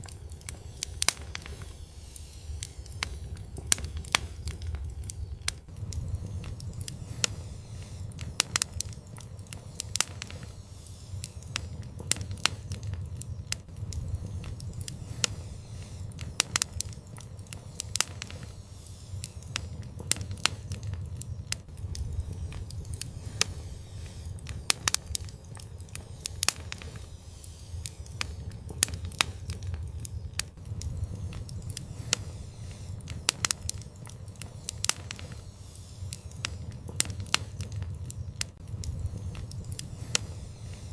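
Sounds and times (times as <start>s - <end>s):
fire crackling with pops: 0.0s - 40.9s.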